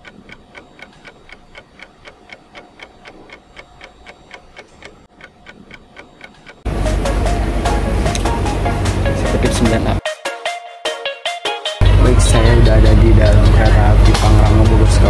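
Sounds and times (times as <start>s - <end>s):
steady ticking: 0.0s - 10.0s, 11.8s - 15.0s.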